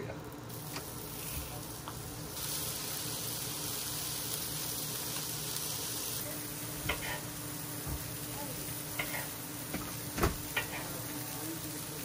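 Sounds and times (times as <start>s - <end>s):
fish sizzling on a griddle: 0.0s - 12.0s.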